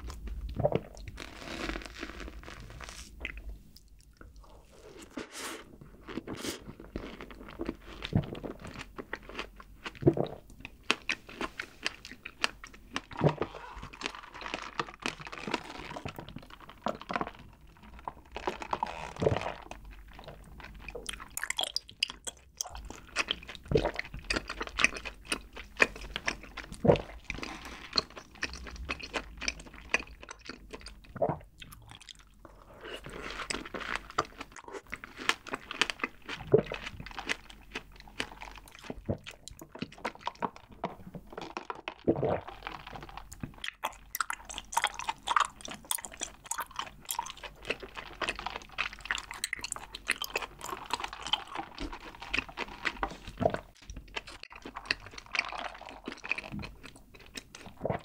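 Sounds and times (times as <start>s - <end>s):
wet chewing and mouth smacking: 0.0s - 58.0s.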